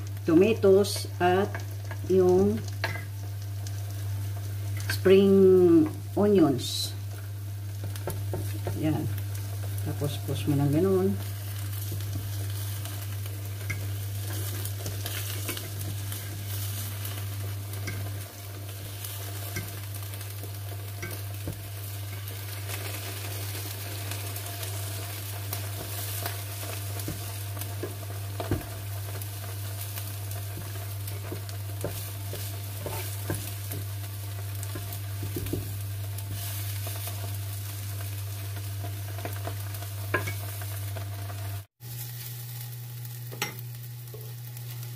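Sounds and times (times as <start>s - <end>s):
egg sizzling in a pan: 0.0s - 44.9s.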